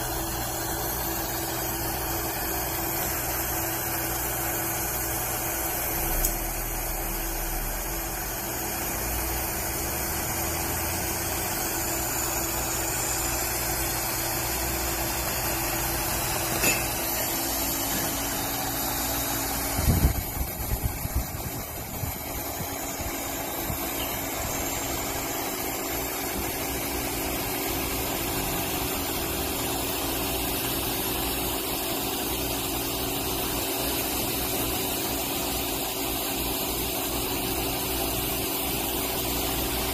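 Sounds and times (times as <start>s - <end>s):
welding machine hum: 0.0s - 39.9s.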